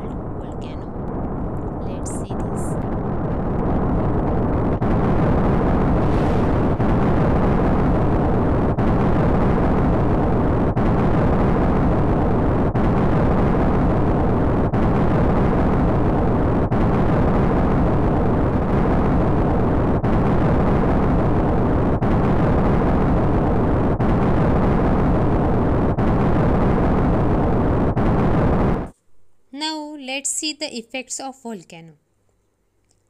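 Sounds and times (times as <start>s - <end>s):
deep volcanic rumble: 0.0s - 29.0s.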